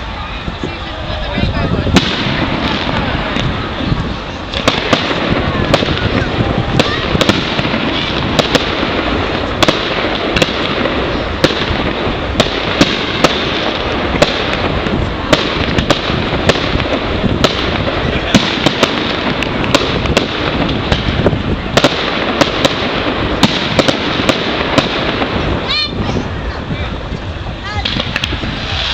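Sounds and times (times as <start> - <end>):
fireworks crackling and rumbling: 0.0 - 28.9.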